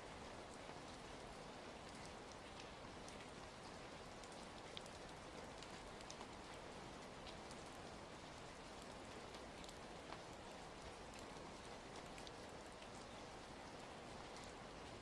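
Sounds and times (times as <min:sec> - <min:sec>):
steady rain: 0:00.0 - 0:15.0
wood fire crackling: 0:02.0 - 0:15.0.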